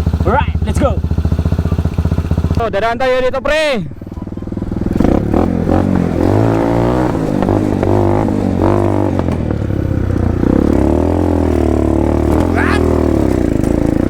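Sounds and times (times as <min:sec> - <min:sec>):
motorcycle engine revving: 0:00.0 - 0:03.2, 0:03.9 - 0:14.0.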